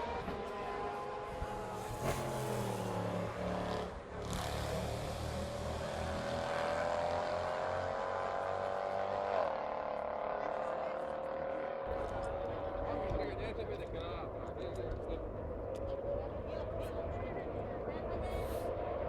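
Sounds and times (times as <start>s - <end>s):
racing car engines: 0.0s - 19.0s.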